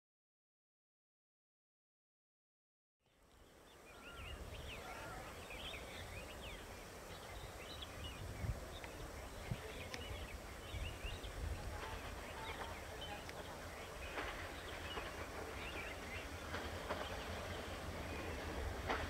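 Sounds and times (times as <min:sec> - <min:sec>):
small birds chirping: 0:03.1 - 0:19.0.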